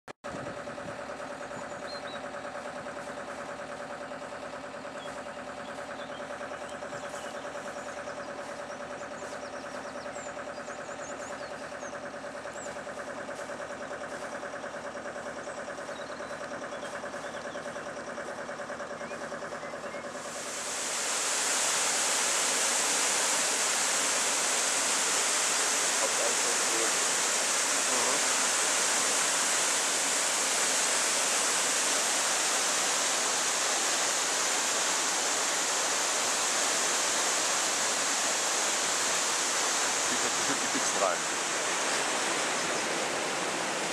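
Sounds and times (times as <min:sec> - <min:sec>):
boat engine idling: 0:00.2 - 0:43.9.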